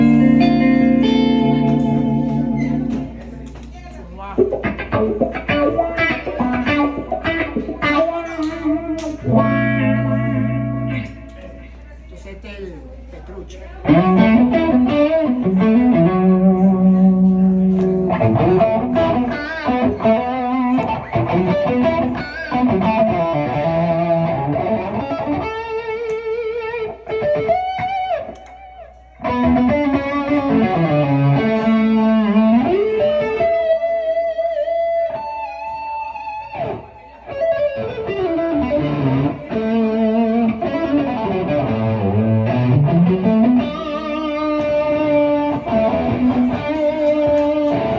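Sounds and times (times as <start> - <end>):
electric guitar lead lines: 0.0 - 11.9, 13.8 - 47.9.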